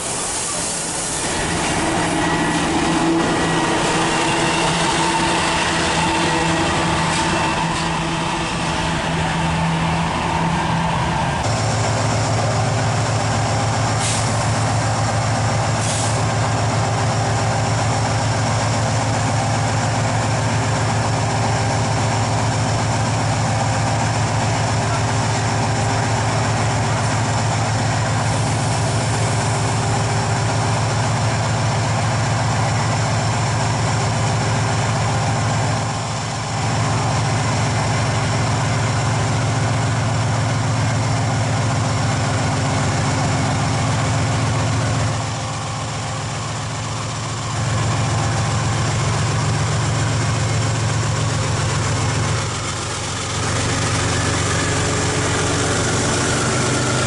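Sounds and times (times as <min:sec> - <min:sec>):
diesel locomotive engine idling: 0:00.0 - 0:57.0.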